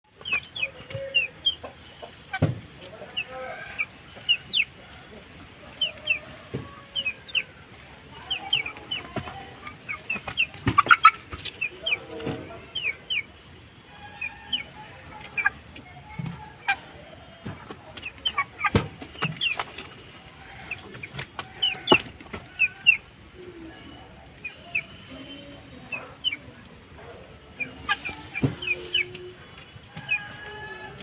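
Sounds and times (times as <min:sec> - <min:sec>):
chicken clucking: 0:00.1 - 0:31.0
chicks peeping: 0:00.1 - 0:31.0.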